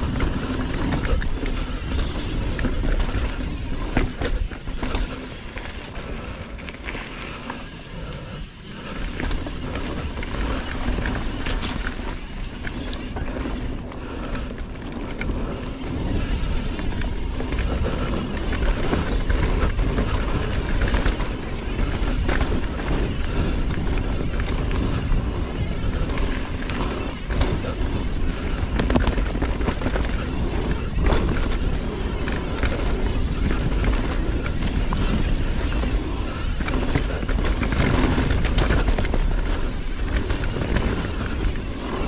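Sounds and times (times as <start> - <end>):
bike rattling over bumps: 0.0 - 42.0
bike tyres on dirt: 0.0 - 42.0
wind rumbling on microphone: 0.0 - 42.0.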